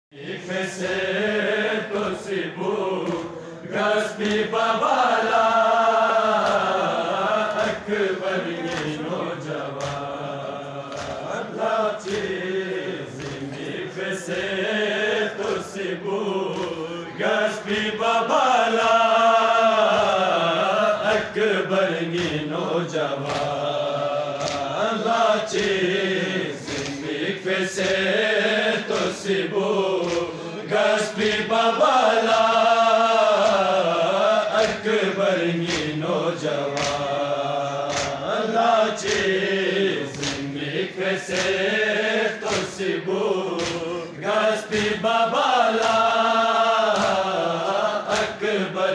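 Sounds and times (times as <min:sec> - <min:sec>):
men chanting a lament: 0:00.1 - 0:48.9.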